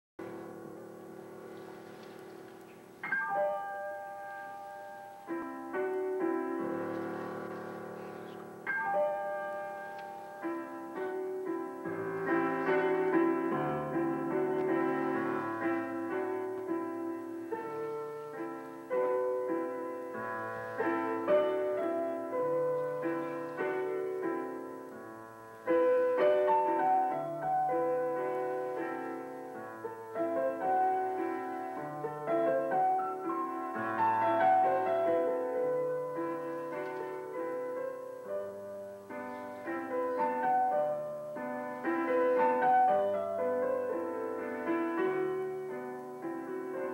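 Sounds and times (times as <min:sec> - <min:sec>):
piano music: 0:00.2 - 0:46.9.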